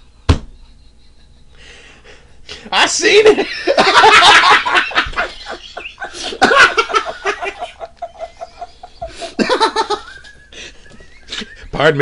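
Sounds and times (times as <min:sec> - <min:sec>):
men laughing: 0:00.8 - 0:12.0.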